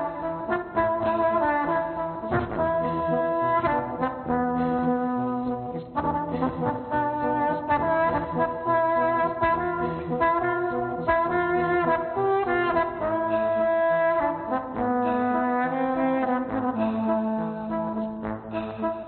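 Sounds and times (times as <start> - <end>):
repeating low bass figure: 0.0 - 15.4
trombone playing melody: 0.0 - 19.0.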